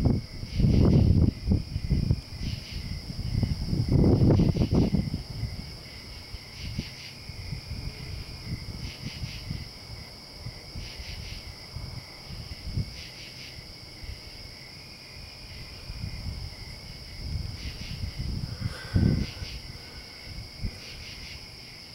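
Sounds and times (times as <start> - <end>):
night insects chirping: 0.0 - 21.9
wind rumble on microphone: 0.0 - 21.9.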